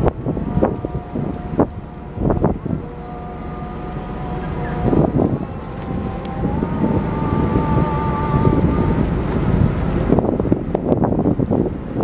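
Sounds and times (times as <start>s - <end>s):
faint steady whine: 0.0s - 10.4s
low rumble: 0.0s - 12.0s
wind buffeting microphone: 0.0s - 12.0s.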